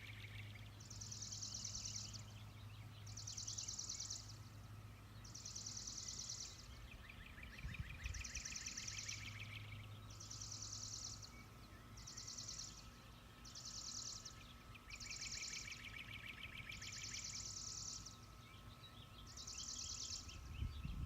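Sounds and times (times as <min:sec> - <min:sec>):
bird lower trill: 0:00.0 - 0:21.0
low steady hum: 0:00.0 - 0:21.0.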